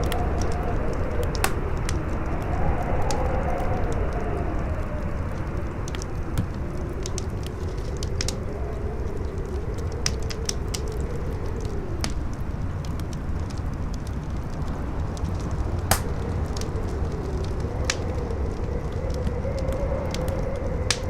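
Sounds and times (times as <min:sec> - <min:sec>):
campfire crackling: 0:00.0 - 0:21.0
howling wind: 0:00.0 - 0:21.0.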